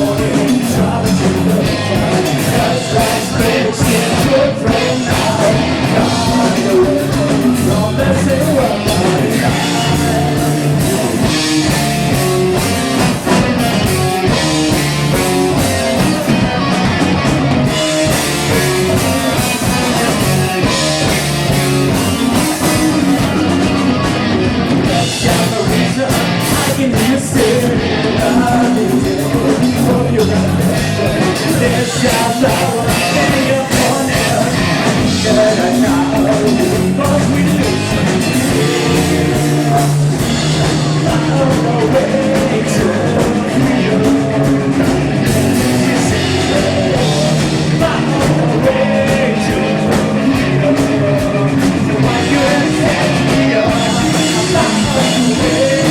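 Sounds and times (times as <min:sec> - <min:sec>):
drum kit: 0:00.0 - 0:55.9
electric guitars: 0:00.0 - 0:55.9
person singing: 0:00.0 - 0:55.9.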